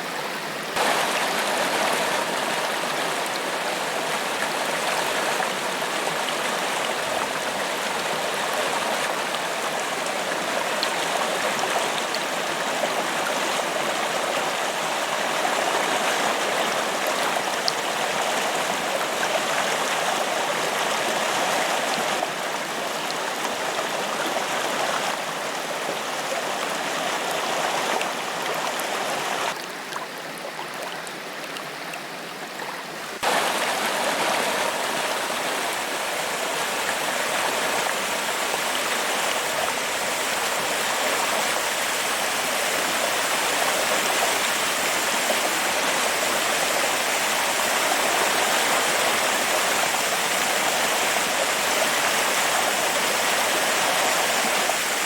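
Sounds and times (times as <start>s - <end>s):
waterfall rushing: 0.0s - 29.6s, 33.2s - 55.0s.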